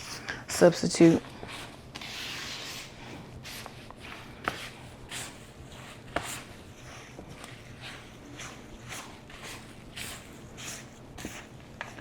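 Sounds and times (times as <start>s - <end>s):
utensil scraping a mixing bowl: 0.0s - 12.0s.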